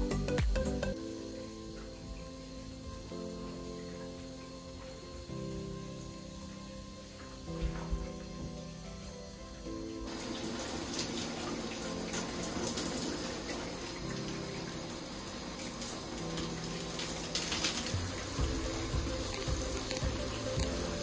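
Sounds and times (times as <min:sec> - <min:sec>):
background music with low notes: 0:00.0 - 0:21.0
water running: 0:00.0 - 0:21.0.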